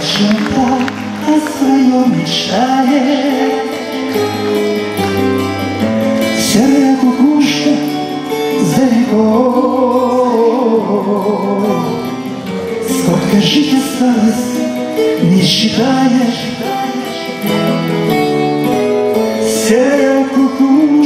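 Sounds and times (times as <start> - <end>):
live band song with vocals: 0.0 - 21.0.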